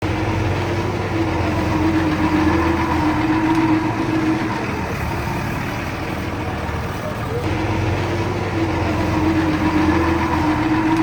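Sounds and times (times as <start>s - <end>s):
engine whine: 0.0s - 11.0s
heavy machine engine running: 0.0s - 11.0s.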